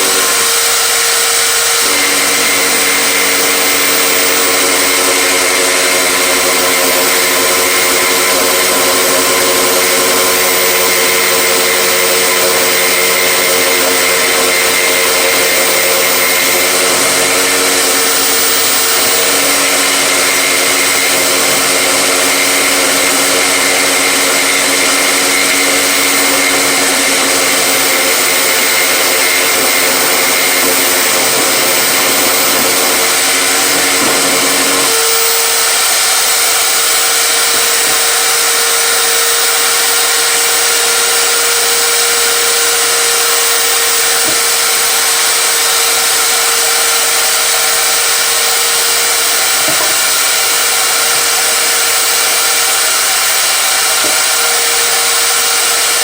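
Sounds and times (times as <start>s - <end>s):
power tool running: 0.0s - 56.0s.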